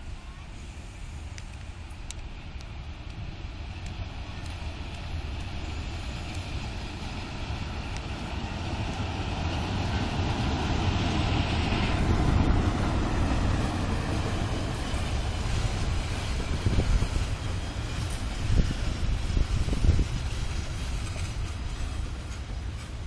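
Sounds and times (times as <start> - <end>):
locomotive engine rumble: 0.0 - 23.0.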